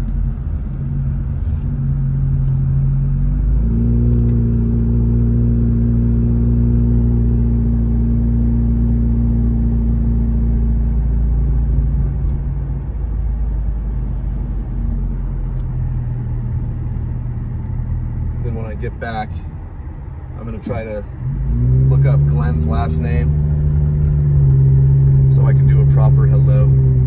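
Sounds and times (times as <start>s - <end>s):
car engine drone: 0.0s - 27.0s
road noise: 0.0s - 27.0s.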